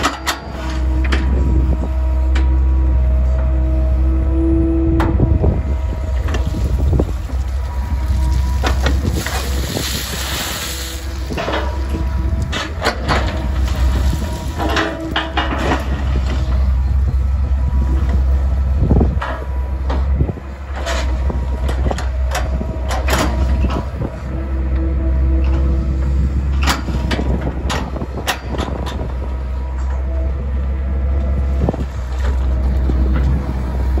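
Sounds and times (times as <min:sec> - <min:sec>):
excavator diesel engine: 0:00.0 - 0:34.0
hydraulics whining: 0:00.0 - 0:34.0.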